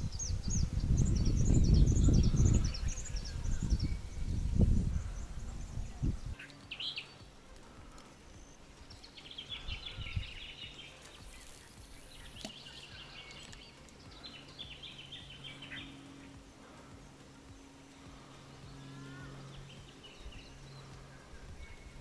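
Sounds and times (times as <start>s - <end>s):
birds trilling chirps: 0.0s - 22.0s.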